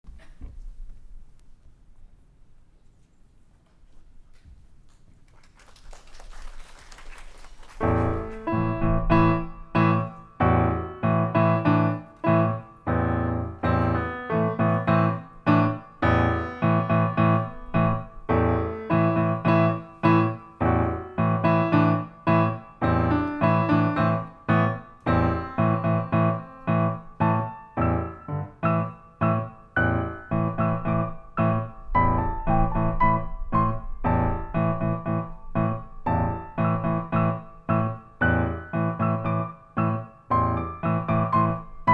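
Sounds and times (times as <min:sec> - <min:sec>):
piano chords: 0:07.8 - 0:41.9.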